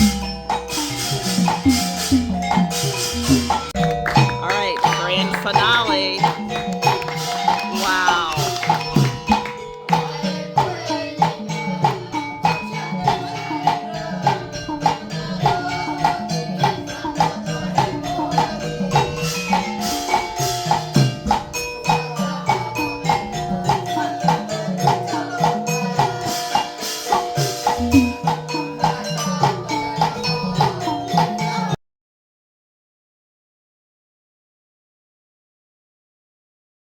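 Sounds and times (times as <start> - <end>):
drums: 0.0 - 31.8
mallet xylophone notes: 0.0 - 31.8
small jingling percussion: 0.0 - 31.8.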